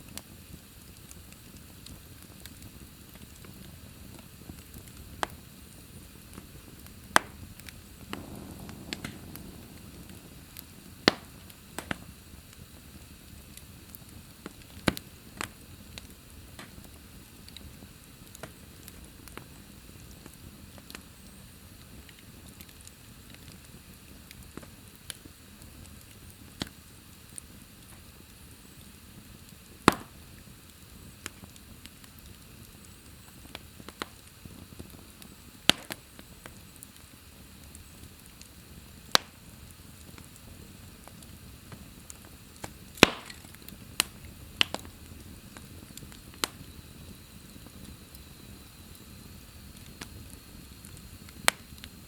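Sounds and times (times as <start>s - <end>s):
fire crackles and pops: 0.0s - 52.0s
wood fire hissing: 0.0s - 52.0s.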